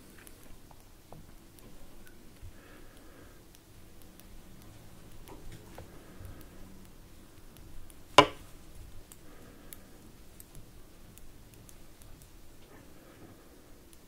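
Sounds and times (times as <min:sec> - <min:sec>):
knitting needles ticking: 0:00.0 - 0:12.6.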